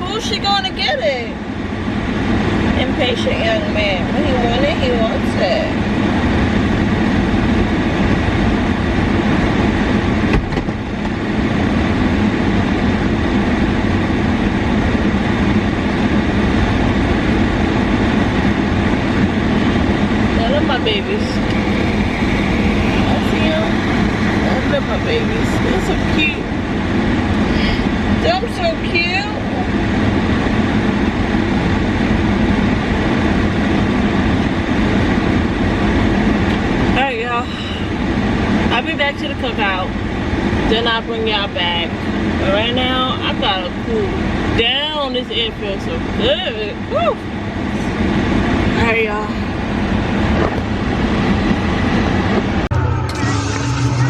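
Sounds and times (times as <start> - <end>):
air conditioning blowing: 0.0 - 54.0
low hum: 0.0 - 54.0.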